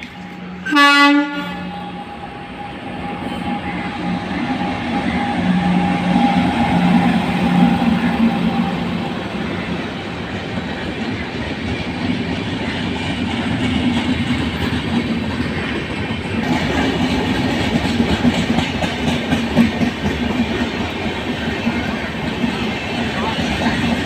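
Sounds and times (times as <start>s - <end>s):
train wheels rumbling on rails: 0.0s - 24.0s
clickety-clack over rail joints: 3.3s - 24.0s.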